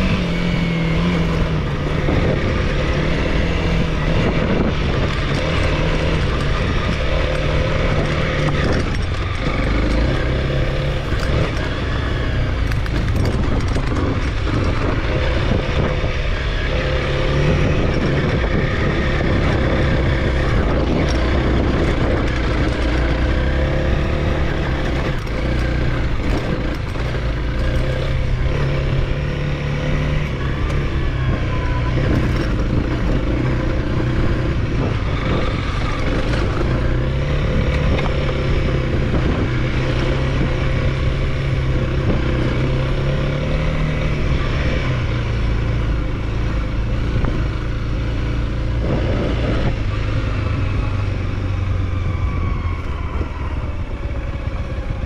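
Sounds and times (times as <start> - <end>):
motorcycle engine running: 0.0 - 55.0
wind rush and riding noise: 0.0 - 55.0.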